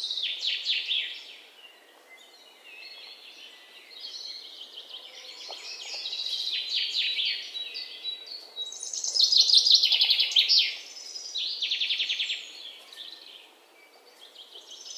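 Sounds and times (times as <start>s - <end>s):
songbird singing and trilling: 0.0s - 14.9s.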